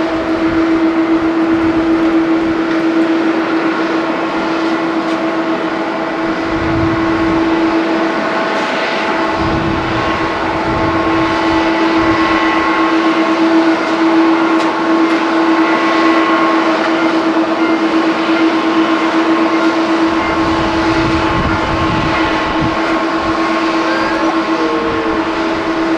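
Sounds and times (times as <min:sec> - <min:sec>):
jet engines droning: 0:00.0 - 0:25.9.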